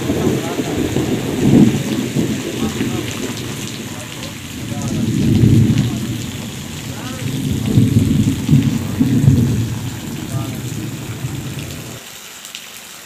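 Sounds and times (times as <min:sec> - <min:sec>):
deep rumbling swells: 0:00.0 - 0:12.0
heavy rain on road: 0:00.0 - 0:13.0.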